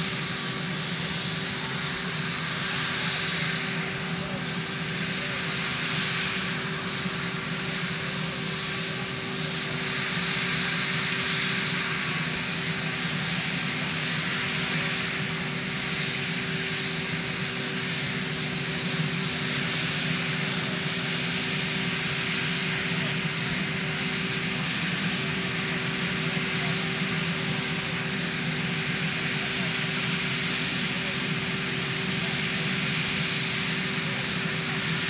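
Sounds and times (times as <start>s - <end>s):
helicopter turbine whine: 0.0s - 35.0s.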